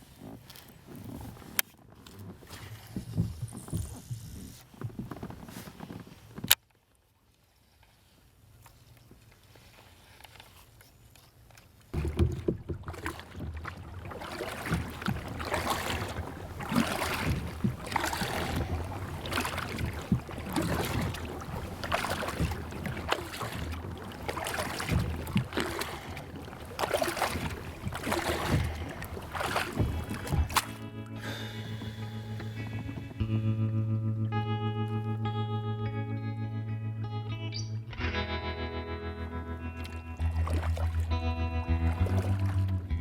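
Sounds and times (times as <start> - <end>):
kayak paddle splashing: 0.0 - 6.6, 7.6 - 33.5, 39.7 - 43.0.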